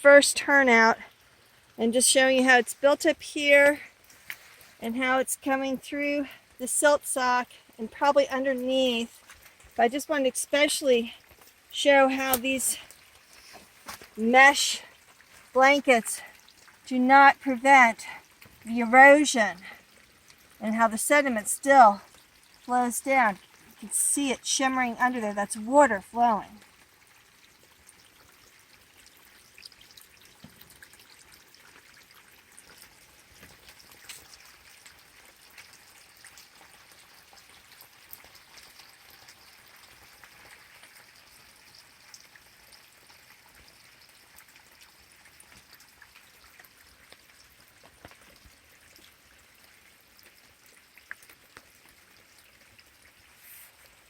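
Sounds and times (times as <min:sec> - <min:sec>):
small ticks and drips: 0:00.0 - 0:54.0
water trickling: 0:00.0 - 0:54.0.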